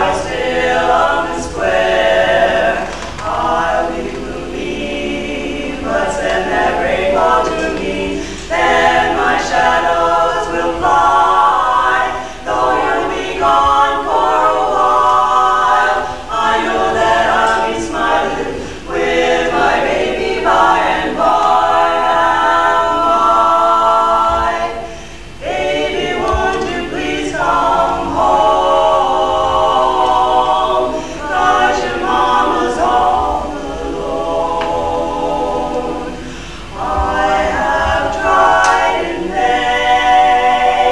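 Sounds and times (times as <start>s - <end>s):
women singing a cappella: 0.0s - 40.9s.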